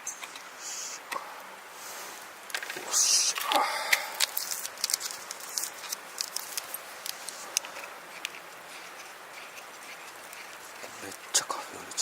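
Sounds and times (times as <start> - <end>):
faint hiss: 0.0 - 12.0
campfire crackling and popping: 2.2 - 12.0.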